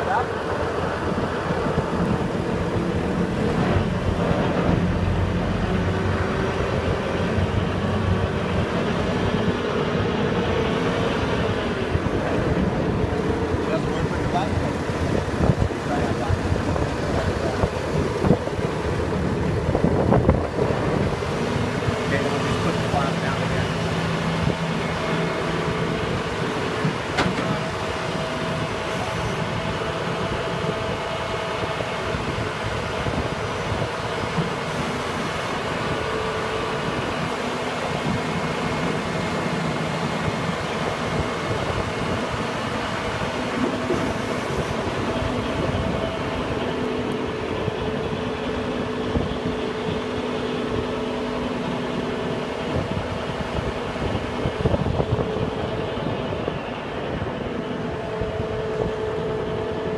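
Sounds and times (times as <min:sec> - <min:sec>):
mixer truck mechanical drone: 0:00.0 - 0:59.9.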